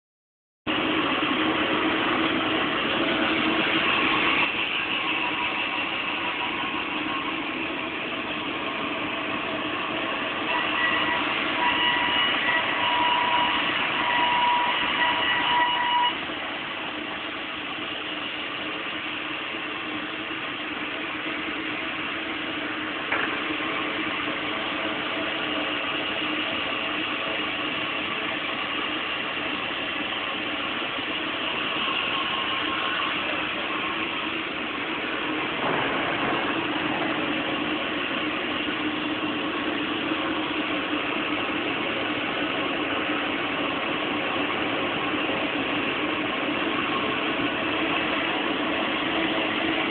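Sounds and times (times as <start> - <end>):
band saw running: 0.7 - 49.9.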